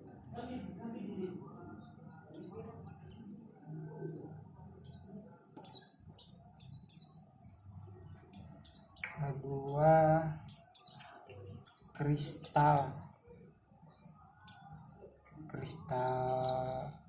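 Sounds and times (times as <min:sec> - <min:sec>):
birds chirping: 0:01.2 - 0:17.0.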